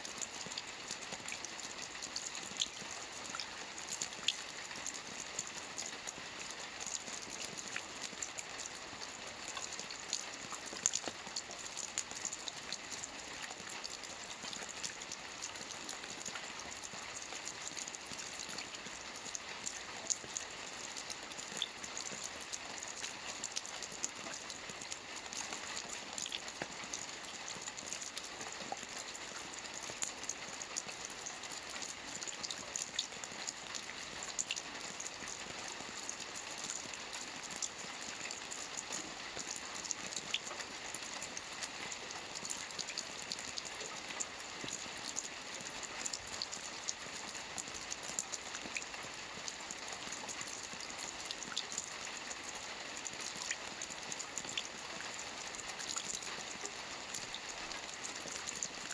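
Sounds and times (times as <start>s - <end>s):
rain on a roof: 0.0s - 58.9s.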